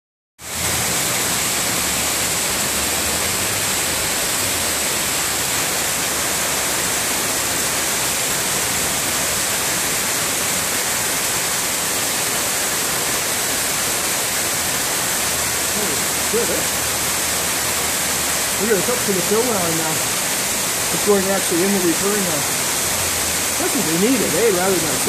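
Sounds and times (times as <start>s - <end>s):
heavy rain falling: 0.4s - 25.0s.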